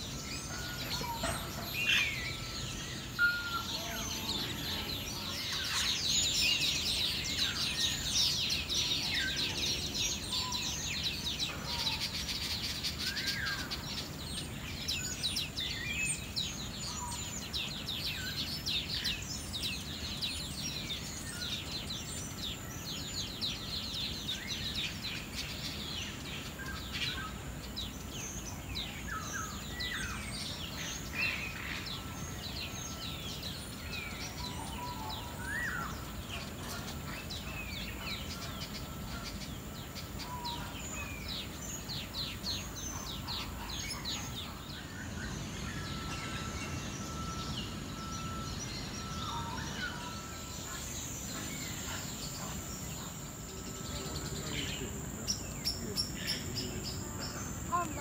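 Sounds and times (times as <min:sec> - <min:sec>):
birds chirping chorus: 0:00.0 - 0:58.0
longer bird calls: 0:00.0 - 0:58.0.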